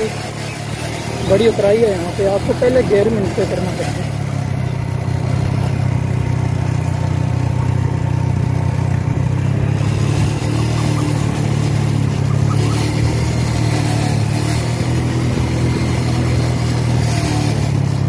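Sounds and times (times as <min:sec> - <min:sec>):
motorcycle engine humming: 0:00.0 - 0:18.0.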